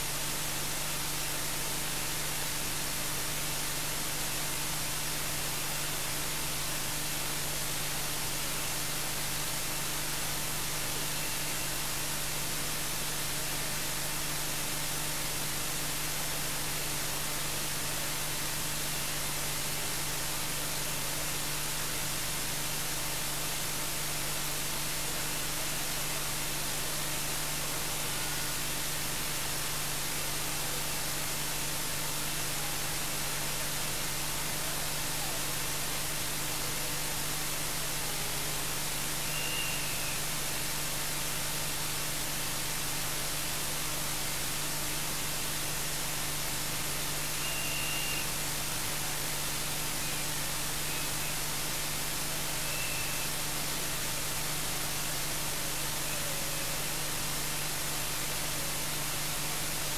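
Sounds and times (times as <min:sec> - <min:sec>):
recording static hiss: 0:00.0 - 0:59.9.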